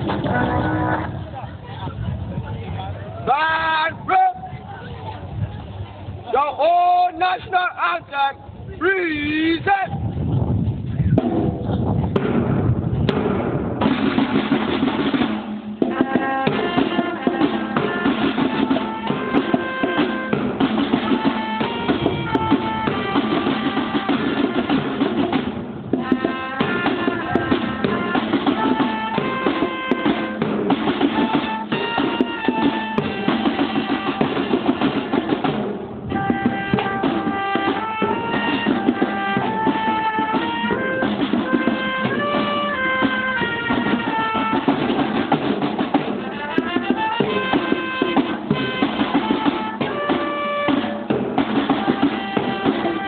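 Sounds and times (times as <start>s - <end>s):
snare drums beating: 0.0s - 1.1s, 11.2s - 53.0s
marching band playing: 0.0s - 1.5s, 11.2s - 53.0s.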